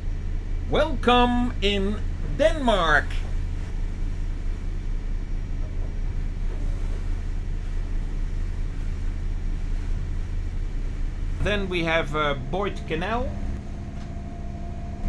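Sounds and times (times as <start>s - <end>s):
boat diesel engines droning: 0.0s - 15.0s.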